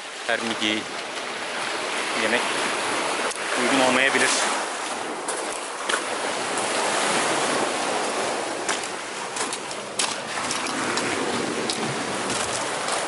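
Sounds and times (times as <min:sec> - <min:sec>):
waves breaking on rocky shore: 0:00.0 - 0:13.0.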